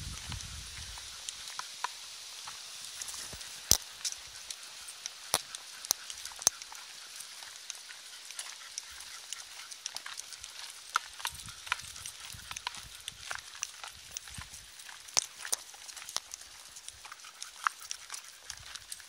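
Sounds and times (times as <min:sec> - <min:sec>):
footsteps and paws on gravel: 0:00.0 - 0:19.0.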